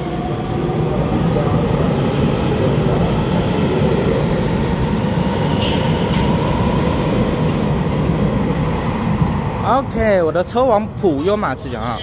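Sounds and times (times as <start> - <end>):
train motors and wheels rumbling: 0.0 - 11.1.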